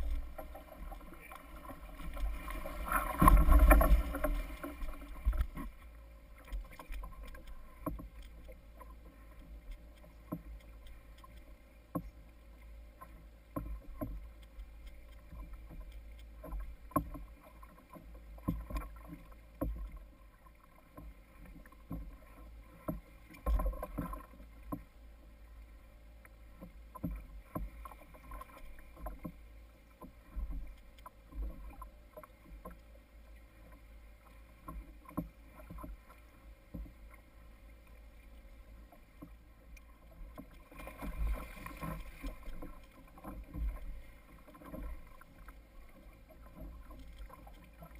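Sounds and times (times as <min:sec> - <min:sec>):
water slapping kayak hull: 0:00.0 - 0:47.9.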